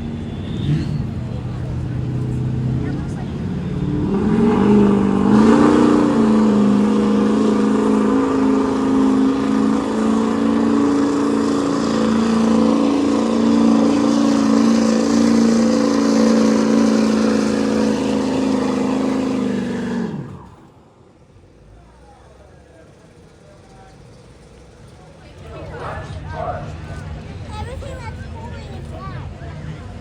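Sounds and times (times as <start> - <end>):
vehicle engine at high revs: 0.0 - 30.0.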